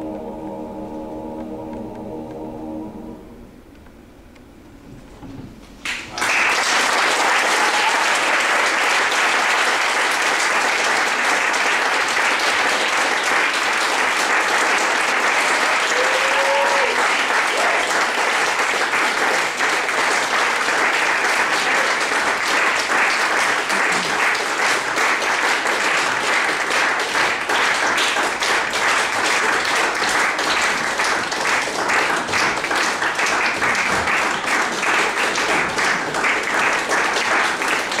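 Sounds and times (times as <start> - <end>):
audience applauding: 5.8 - 38.0.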